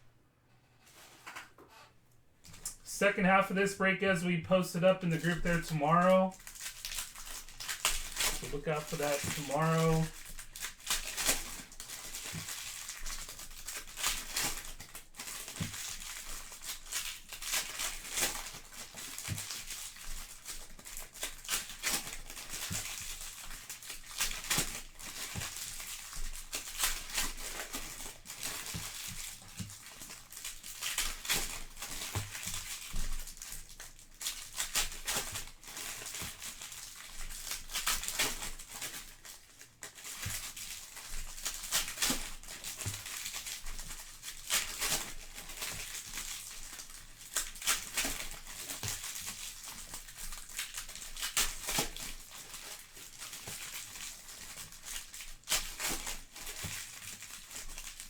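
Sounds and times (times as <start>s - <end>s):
plastic wrapping crinkling and tearing: 4.8s - 58.0s.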